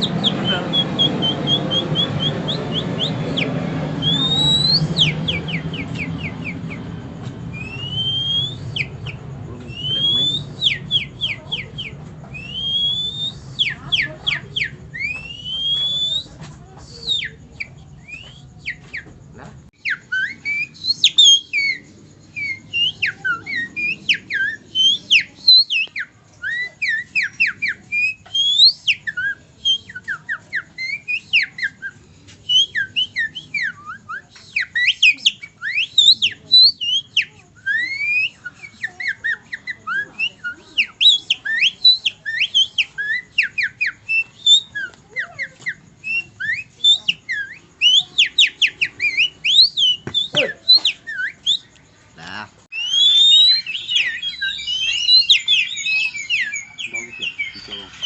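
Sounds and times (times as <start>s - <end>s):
man whistling birdsong: 0.0s - 6.8s, 7.5s - 16.3s, 19.8s - 51.7s, 52.7s - 58.0s.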